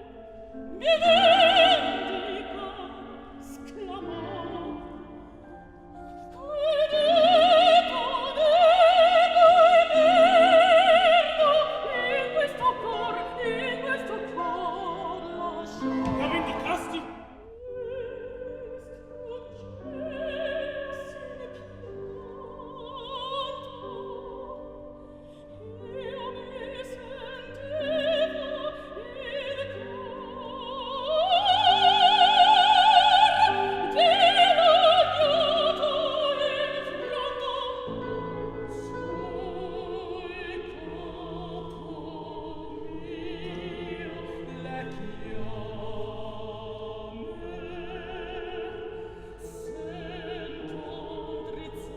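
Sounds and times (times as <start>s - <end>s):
operatic soprano singing: 0.0s - 51.9s.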